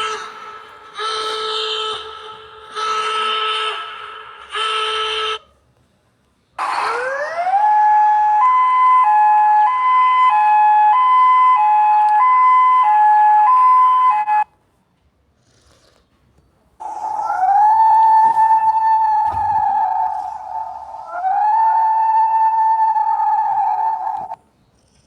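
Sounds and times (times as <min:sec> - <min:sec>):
two-tone hi-lo siren: 0:00.0 - 0:05.4, 0:06.6 - 0:14.5, 0:16.8 - 0:24.4.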